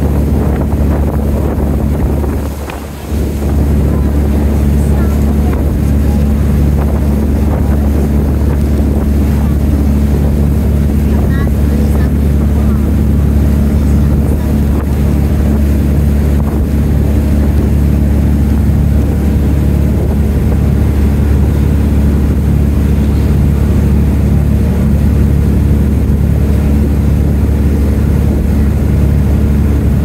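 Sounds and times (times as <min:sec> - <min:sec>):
boat engine droning: 0:00.0 - 0:30.0
water rushing along hull: 0:00.0 - 0:30.0.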